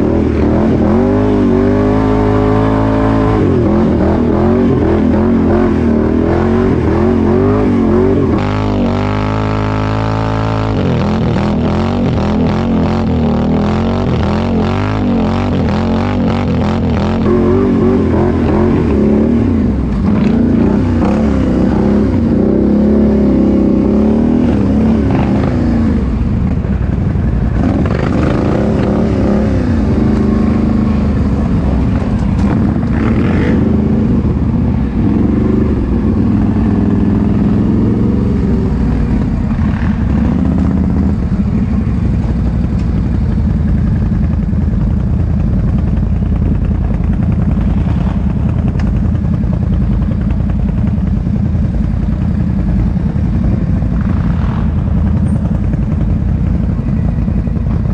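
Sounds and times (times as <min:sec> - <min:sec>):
atv engine revving: 0:00.0 - 0:57.9.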